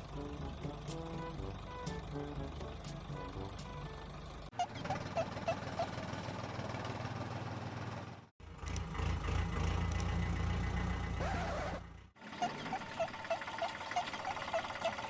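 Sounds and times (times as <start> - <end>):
engine idling rumble: 0.0 - 15.0.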